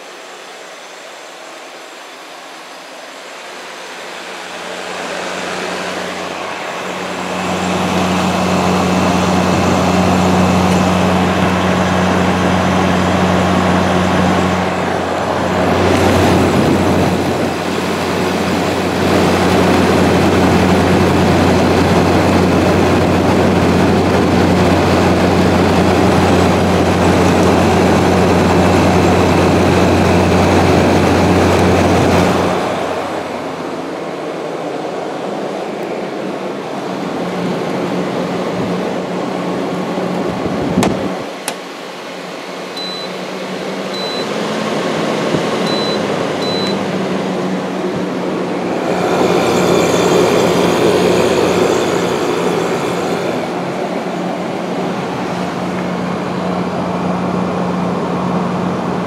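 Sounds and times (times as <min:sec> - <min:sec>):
air conditioner hum: 0:00.0 - 0:59.0
fan air rushing: 0:00.0 - 0:59.0.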